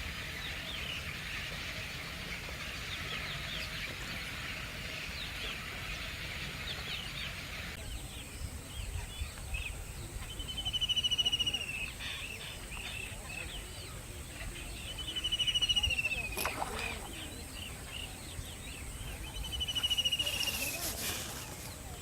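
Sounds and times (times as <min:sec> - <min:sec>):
flock of birds chirping: 0:00.0 - 0:22.0.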